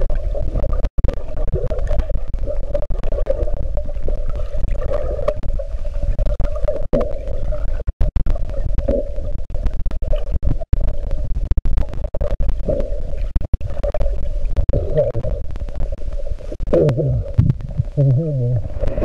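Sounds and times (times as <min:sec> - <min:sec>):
muffled underwater rumble: 0:00.0 - 0:19.0.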